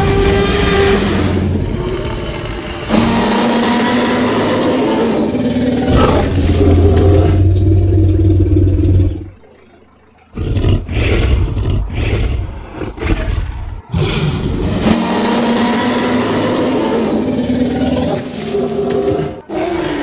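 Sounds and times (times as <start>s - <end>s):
dinosaur growls: 0.0s - 9.4s, 10.3s - 20.0s
dinosaur roar: 0.0s - 9.4s, 10.3s - 20.0s.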